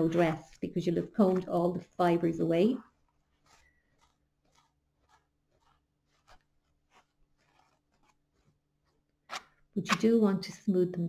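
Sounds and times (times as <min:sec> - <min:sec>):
soft needle scratching wool: 0:00.0 - 0:09.2.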